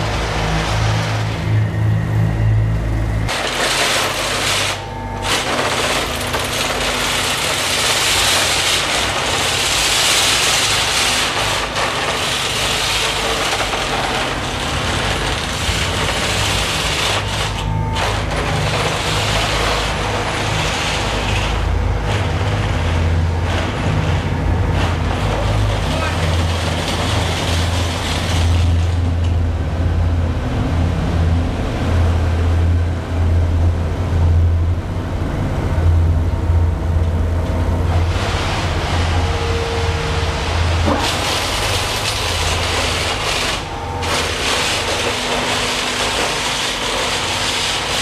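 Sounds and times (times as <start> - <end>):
mining machinery drone and hiss: 0.0 - 48.0.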